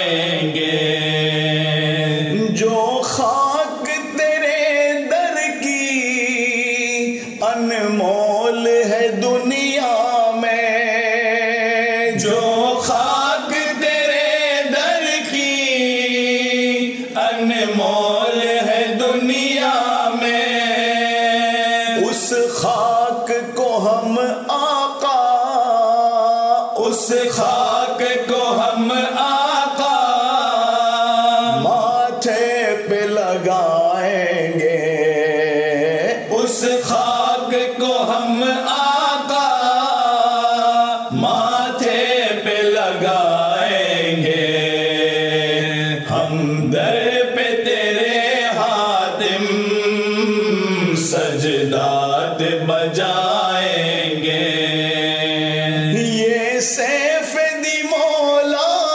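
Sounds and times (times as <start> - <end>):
men chanting: 0.0 - 58.9.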